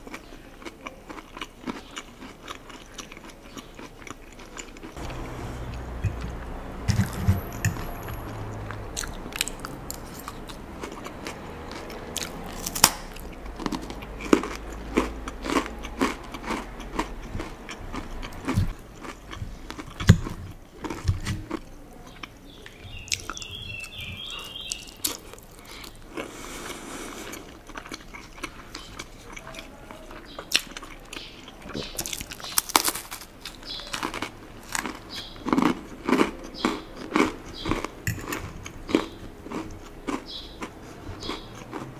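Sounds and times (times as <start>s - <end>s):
crunching crackers: 0.0s - 41.9s.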